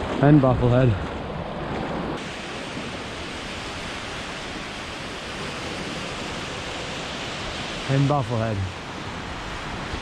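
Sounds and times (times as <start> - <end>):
waves breaking on pebble beach: 0.0 - 10.0.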